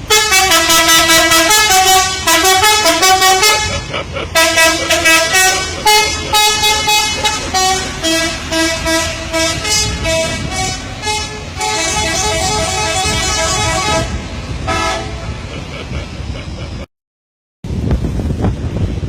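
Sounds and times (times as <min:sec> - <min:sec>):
bus musical horn: 0:00.0 - 0:15.5.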